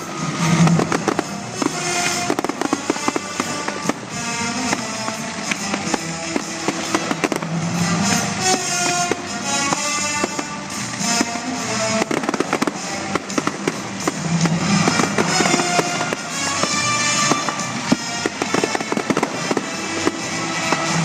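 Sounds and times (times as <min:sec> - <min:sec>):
fireworks crackling and popping: 0:00.0 - 0:21.0
music playing: 0:00.0 - 0:21.0.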